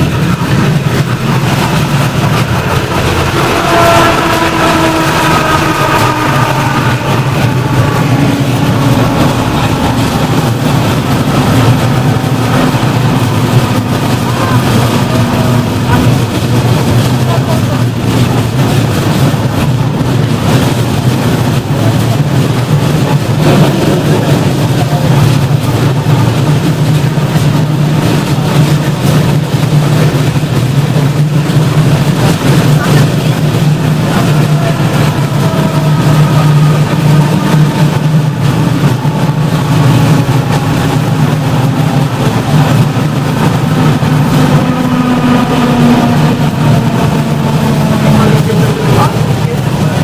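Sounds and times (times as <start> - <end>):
electric tram humming: 0.0 - 50.0
rushing noise: 0.0 - 50.0.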